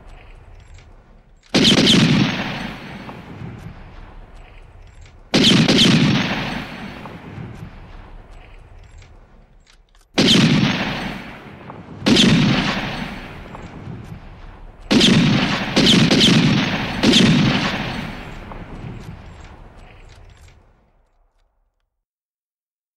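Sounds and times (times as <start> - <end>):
rifle shots with echo: 0.0 - 21.3.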